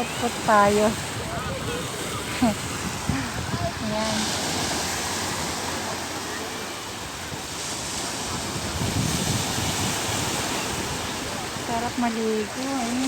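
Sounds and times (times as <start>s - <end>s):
waves washing on beach: 0.0s - 13.0s
wind buffeting microphone: 0.0s - 13.0s.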